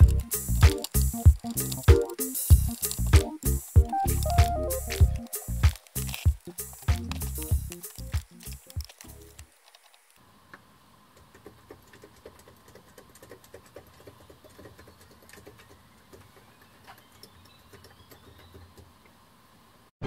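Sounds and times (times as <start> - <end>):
plastic keyboard keys clicking: 0.0 - 10.1, 11.2 - 18.8.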